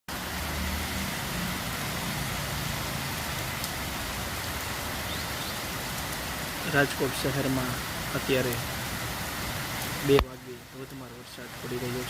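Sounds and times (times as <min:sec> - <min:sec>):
heavy rain pouring: 0:00.1 - 0:12.0.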